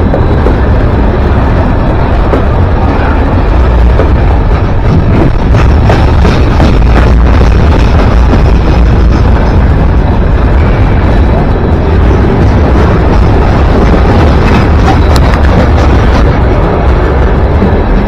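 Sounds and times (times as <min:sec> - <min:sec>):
train rumbling past: 0:00.0 - 0:18.0.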